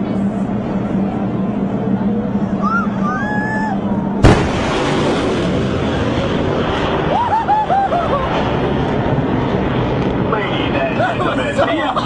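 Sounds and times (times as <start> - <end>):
fighter jet roaring past: 0.0 - 12.0.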